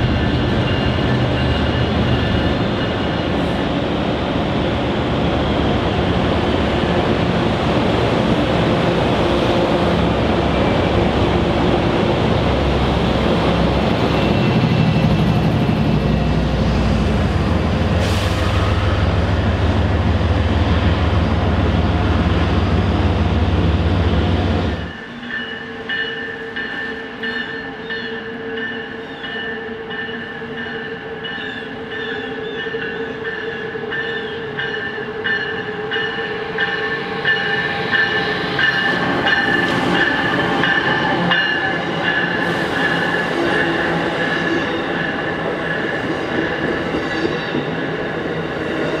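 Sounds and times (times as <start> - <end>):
electric train whining and squealing: 0.0 - 49.0.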